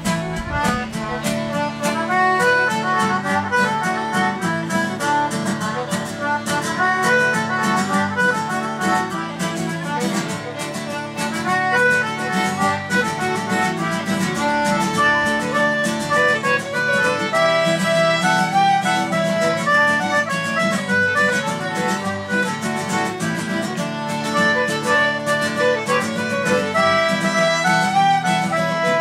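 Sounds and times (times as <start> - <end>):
brisk rhythmic accompaniment: 0.0 - 29.0
fiddle playing quick runs: 0.0 - 29.0.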